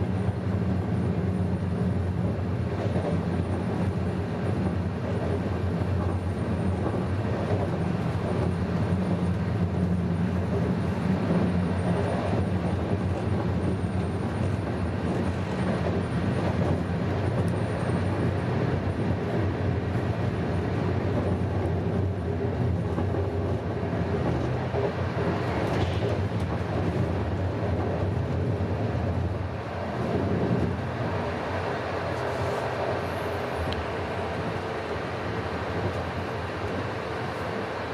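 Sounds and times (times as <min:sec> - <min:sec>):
train wheels on rails: 0:00.0 - 0:37.9.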